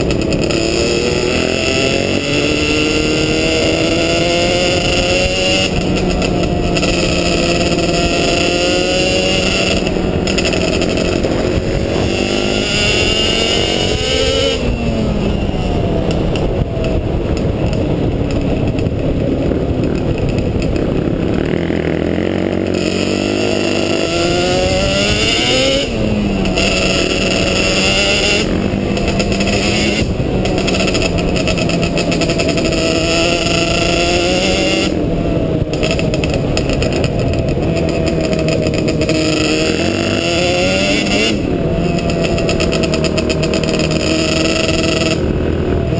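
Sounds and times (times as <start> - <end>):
quad engine revving: 0.0 - 45.9.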